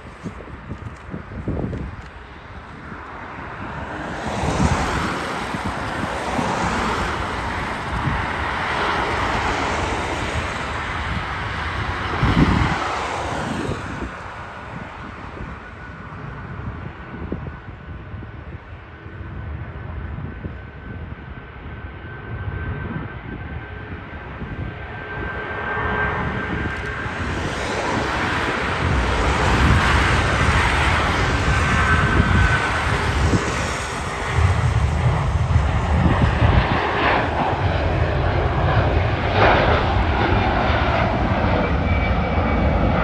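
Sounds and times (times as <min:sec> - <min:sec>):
faint jet engine whine: 0:00.0 - 0:43.0
jet engines roaring: 0:00.0 - 0:43.0.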